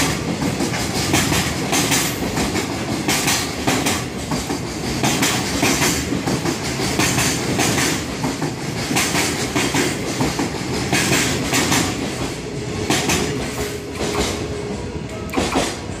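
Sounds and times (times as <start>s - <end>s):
train wheels clacking over rail joints: 0.0s - 14.5s, 15.1s - 16.0s
freight train rumble: 0.0s - 16.0s.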